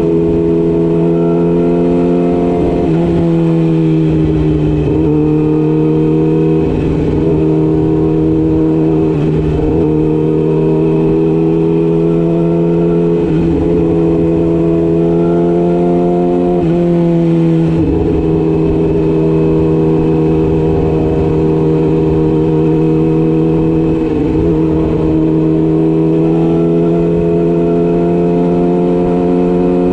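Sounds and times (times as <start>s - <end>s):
motorcycle engine running steadily: 0.0s - 29.9s.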